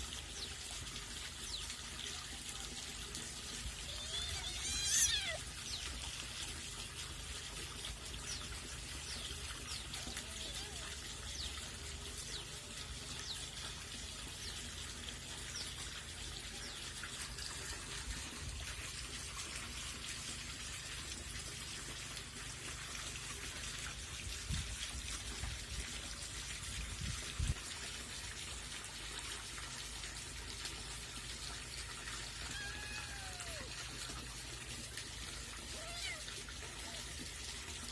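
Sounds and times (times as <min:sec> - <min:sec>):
trickle of running water: 0:00.0 - 0:37.9.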